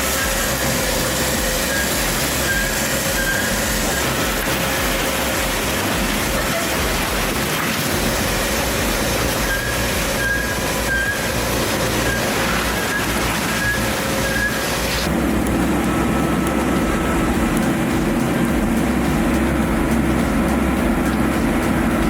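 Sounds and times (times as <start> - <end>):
high squeaks: 0.0 - 22.0
industrial shredder grinding: 0.0 - 22.0.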